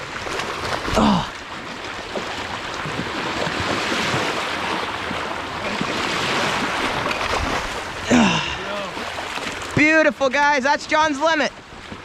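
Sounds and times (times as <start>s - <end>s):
waves washing onto shore: 0.0s - 12.0s.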